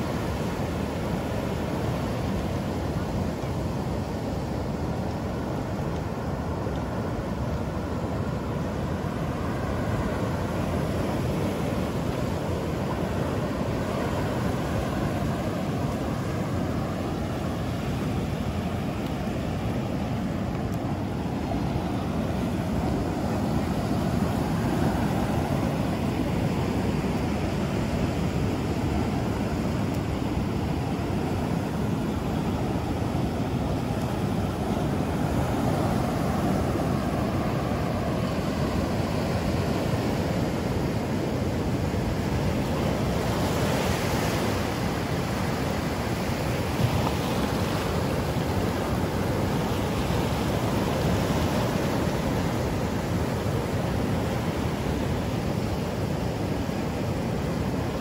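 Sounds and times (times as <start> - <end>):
ocean surf on beach: 0.0 - 58.0.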